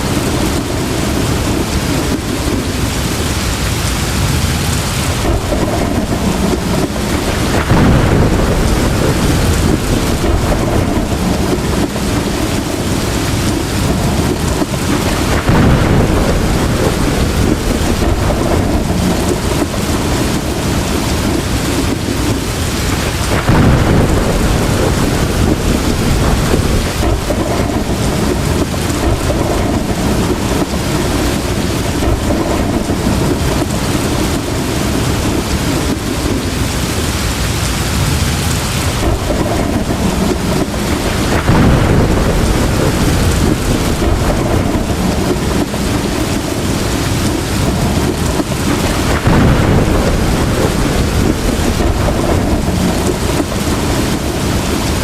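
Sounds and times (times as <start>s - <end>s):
heavy rain falling: 0.0s - 55.0s
thunder rumbling: 0.0s - 55.0s.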